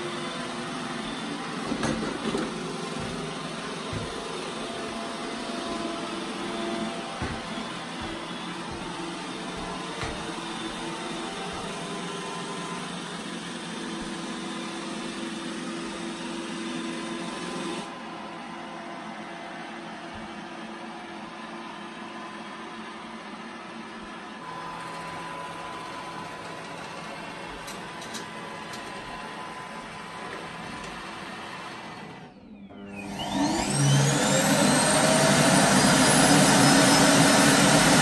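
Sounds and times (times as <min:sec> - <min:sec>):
robot vacuum humming: 0:00.0 - 0:21.3, 0:22.7 - 0:38.0.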